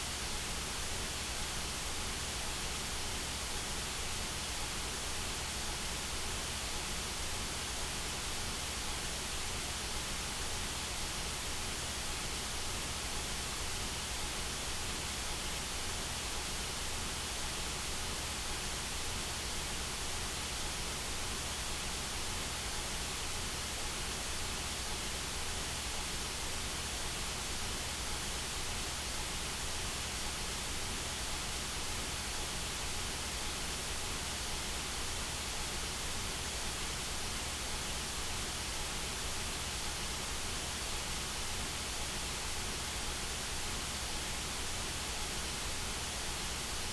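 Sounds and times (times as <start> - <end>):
white noise hiss: 0.0 - 46.9.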